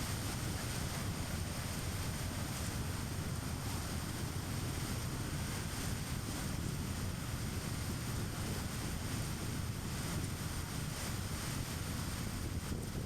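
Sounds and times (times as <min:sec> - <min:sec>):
wind noise: 0:00.0 - 0:13.0.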